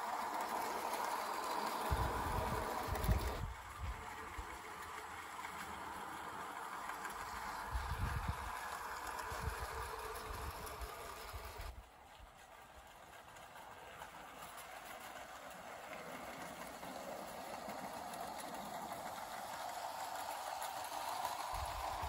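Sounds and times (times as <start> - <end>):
model train rattling on rails: 0.0 - 22.0.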